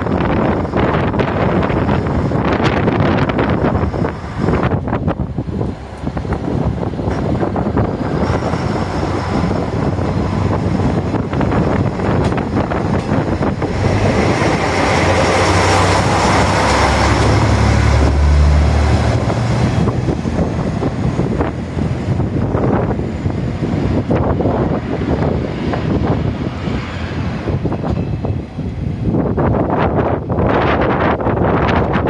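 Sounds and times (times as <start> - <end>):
diesel engine droning: 0.0 - 30.5
train wheels clattering on rail: 0.0 - 32.0.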